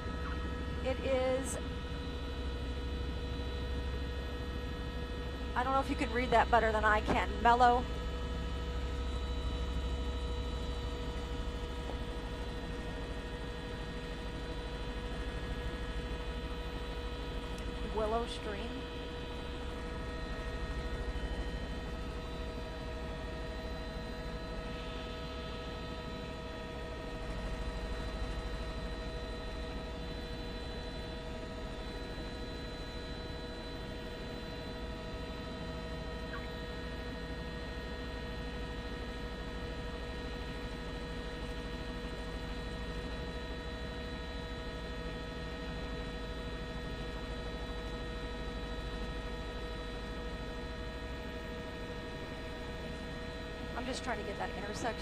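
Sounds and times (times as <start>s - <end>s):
electrical hum with fixed tones: 0.0s - 55.0s.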